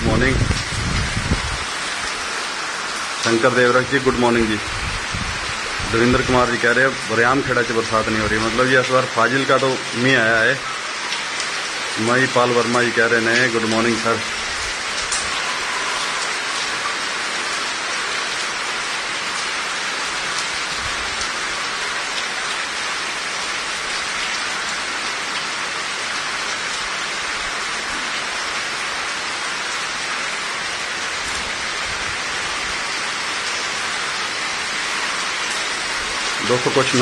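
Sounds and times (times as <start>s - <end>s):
heavy rain on rooftops: 0.0s - 37.0s.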